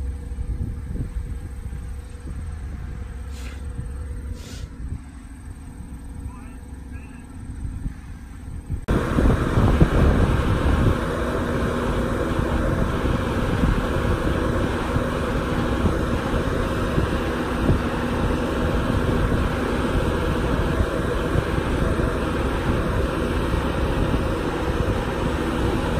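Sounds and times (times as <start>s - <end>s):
diesel engine running: 0.0s - 25.9s
wind rumbling on microphone: 0.0s - 25.9s.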